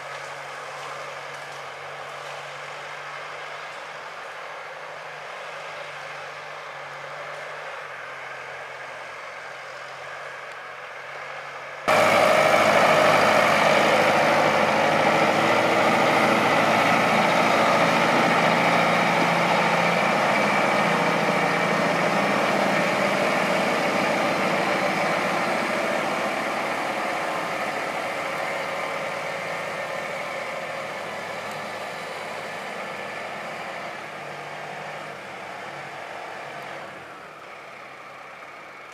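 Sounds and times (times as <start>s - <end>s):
tractor diesel engine: 0.0s - 38.9s.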